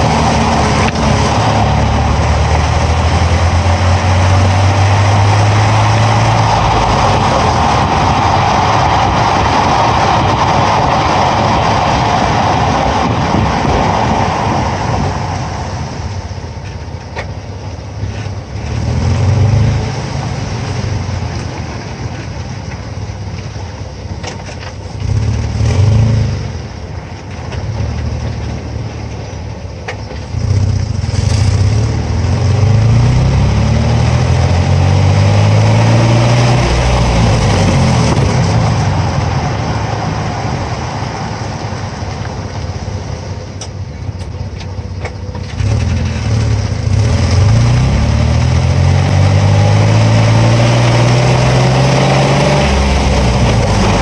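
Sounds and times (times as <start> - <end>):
truck engine: 0.0 - 54.0.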